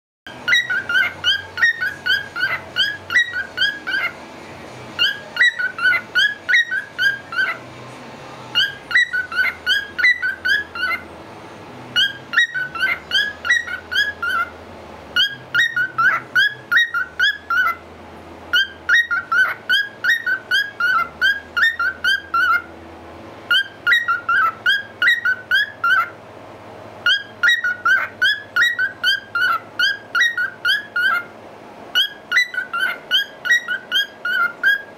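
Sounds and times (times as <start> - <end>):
cockatiel whistling: 0.3 - 4.2, 5.0 - 7.6, 8.5 - 11.1, 11.9 - 14.6, 15.2 - 17.8, 18.5 - 22.7, 23.5 - 26.2, 27.0 - 31.3, 31.9 - 34.9.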